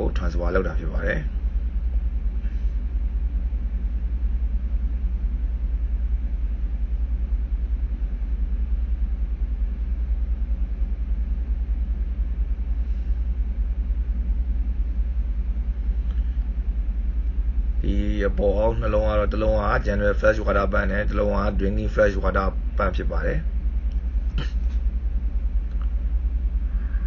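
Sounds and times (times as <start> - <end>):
engine room machinery rumble: 0.0 - 27.0.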